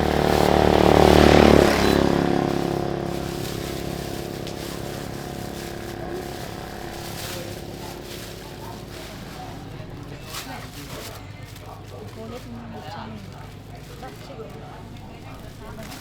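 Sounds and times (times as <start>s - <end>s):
motorbike engine passing: 0.0s - 16.0s.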